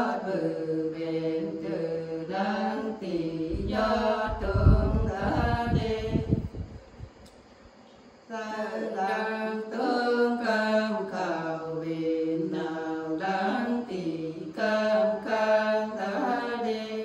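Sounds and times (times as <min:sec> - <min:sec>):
women singing unaccompanied: 0:00.0 - 0:06.9, 0:08.2 - 0:17.0.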